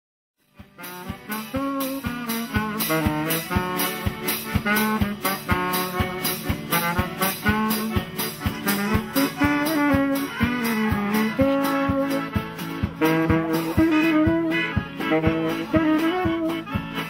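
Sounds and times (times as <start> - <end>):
band playing march: 0.4 - 17.0.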